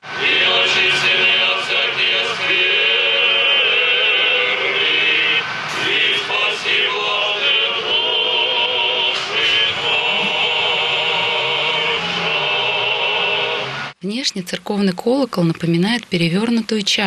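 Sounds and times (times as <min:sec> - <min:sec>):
men's choir chanting: 0:00.1 - 0:13.9.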